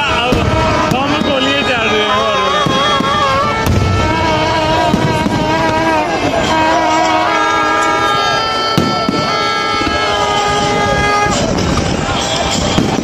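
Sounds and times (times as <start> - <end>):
firework bang: 0.0 - 1.7, 2.6 - 7.9, 8.7 - 13.0
busy noisy background: 0.0 - 13.0
horns and whistles sounding: 0.0 - 13.0.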